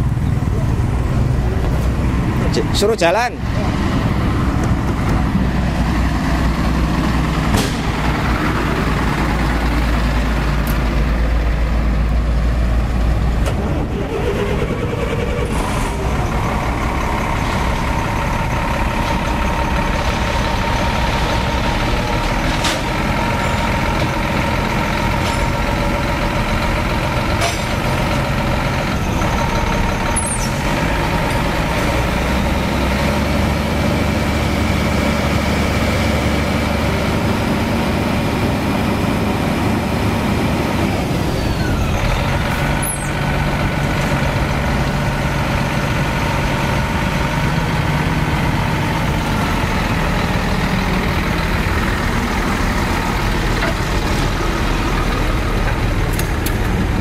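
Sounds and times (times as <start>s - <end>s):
truck diesel engines droning: 0.0s - 57.0s.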